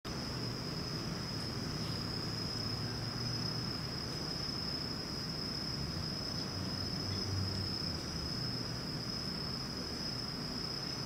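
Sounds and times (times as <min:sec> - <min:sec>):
insects chirring: 0:00.1 - 0:11.0
faint low murmur: 0:00.3 - 0:10.9.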